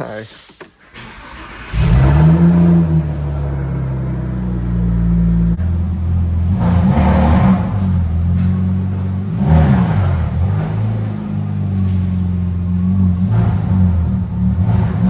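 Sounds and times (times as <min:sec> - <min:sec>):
car engine starting and idling: 0:00.3 - 0:15.0.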